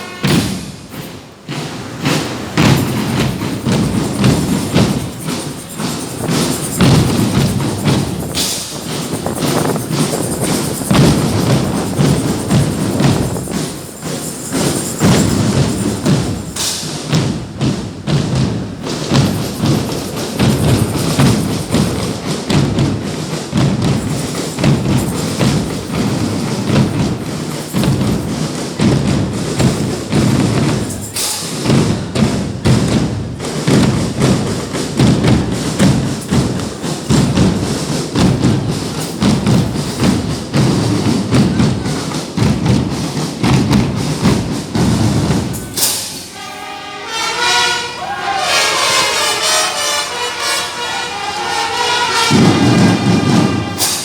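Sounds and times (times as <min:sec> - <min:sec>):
drums beating heavy low thuds: 0:00.0 - 0:45.9, 0:52.2 - 0:53.9.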